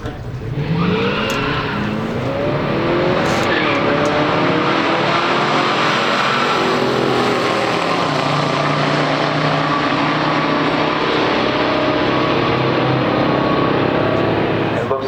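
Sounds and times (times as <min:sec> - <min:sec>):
car engines at full throttle: 0:00.0 - 0:15.0.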